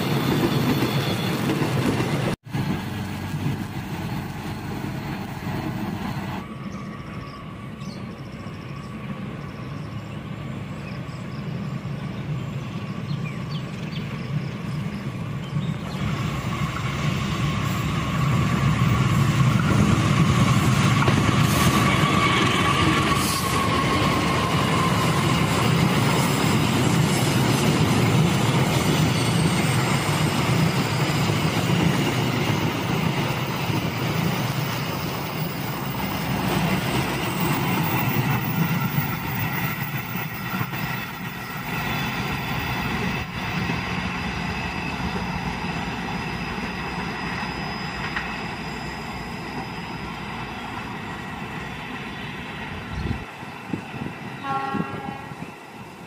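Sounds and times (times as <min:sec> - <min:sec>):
locomotive engine and rail rumble: 0:00.0 - 0:56.0
wheels squealing on rails: 0:00.0 - 0:56.0.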